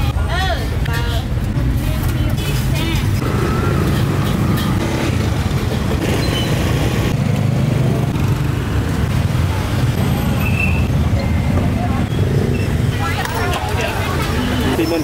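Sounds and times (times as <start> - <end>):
busy market background noise: 0.0 - 15.0
motorbikes: 0.0 - 15.0
street traffic rumble: 0.0 - 15.0.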